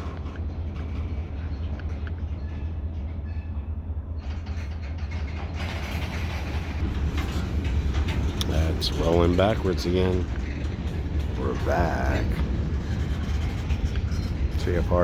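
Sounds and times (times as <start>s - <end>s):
low diesel rumble: 0.0s - 15.0s
rail cars rolling: 0.0s - 15.0s.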